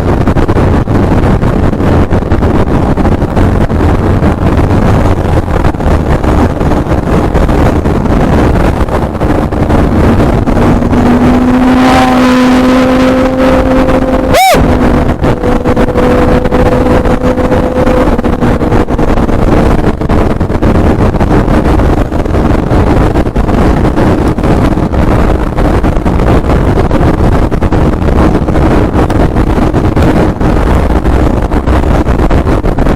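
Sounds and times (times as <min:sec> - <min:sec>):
heavy rushing noise: 0:00.0 - 0:32.9
motorcycle engine running loud: 0:00.0 - 0:32.9.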